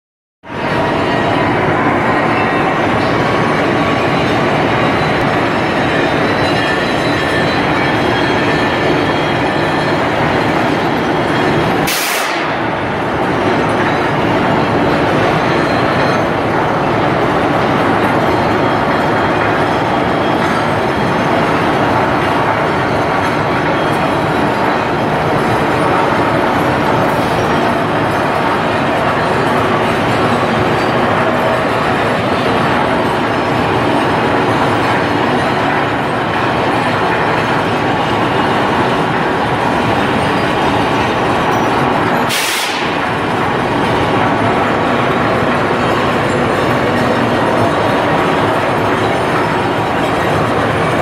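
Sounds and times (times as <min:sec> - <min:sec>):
feeder cart mechanical noise: 0:00.5 - 0:51.0.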